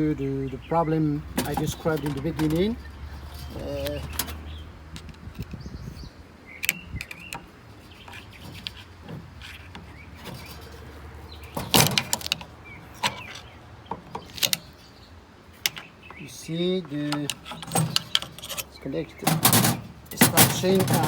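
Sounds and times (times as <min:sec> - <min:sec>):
metal clicks and knocks: 0:01.2 - 0:05.6, 0:06.6 - 0:14.9, 0:15.6 - 0:21.0.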